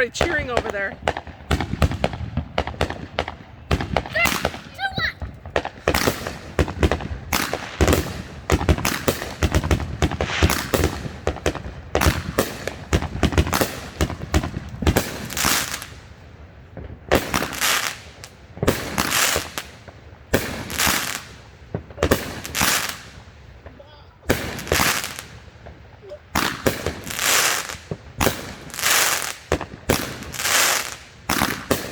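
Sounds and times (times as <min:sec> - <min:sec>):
fireworks crackling and booming: 0:00.0 - 0:31.9.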